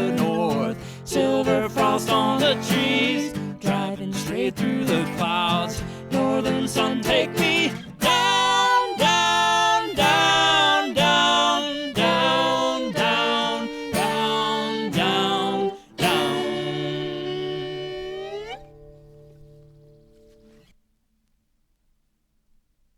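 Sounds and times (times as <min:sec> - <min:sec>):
acoustic guitar chords strummed: 0:00.0 - 0:20.6
held melody line: 0:00.0 - 0:20.6.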